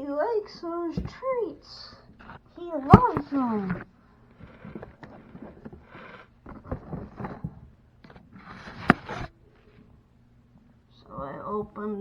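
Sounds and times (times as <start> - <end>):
rustling and scraping of handling: 0.0 - 12.0.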